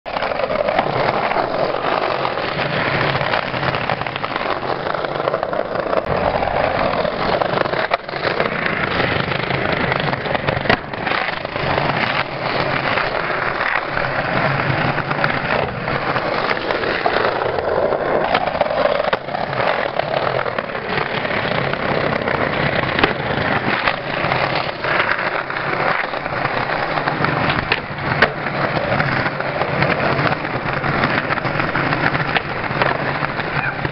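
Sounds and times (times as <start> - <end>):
skateboard wheels rumbling on bricks: 0.0 - 33.9
skateboard clacks: 0.1 - 33.9.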